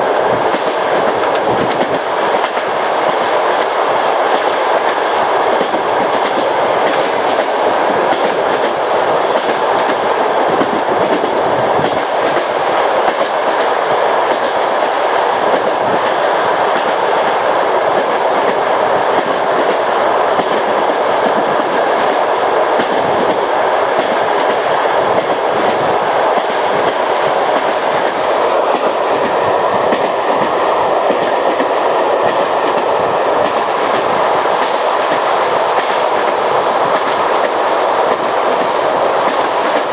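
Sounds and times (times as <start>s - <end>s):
train wheels clickety-clack: 0.0s - 39.9s.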